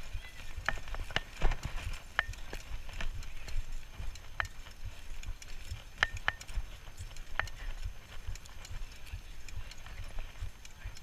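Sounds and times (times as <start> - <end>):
bicycle metallic clicks: 0.0 - 11.0
wind and ground rumble: 0.0 - 11.0.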